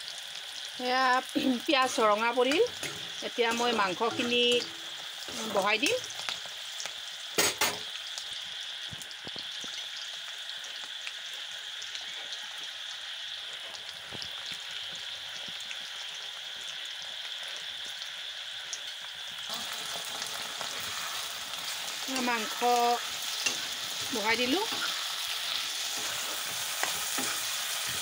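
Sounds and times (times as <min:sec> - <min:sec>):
onions frying in oil: 0:00.0 - 0:28.0.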